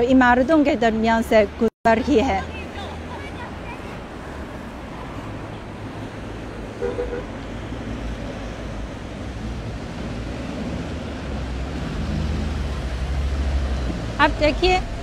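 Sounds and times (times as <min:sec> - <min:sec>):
city traffic: 0:00.0 - 0:15.0.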